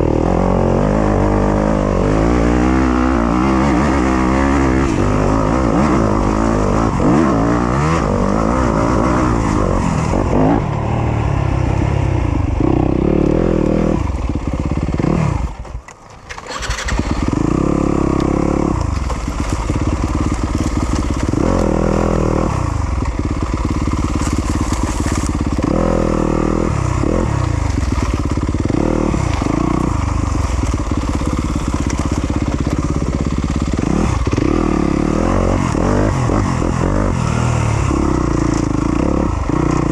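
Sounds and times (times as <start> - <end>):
dirt bike engine revving: 0.0 - 15.6, 16.2 - 39.9.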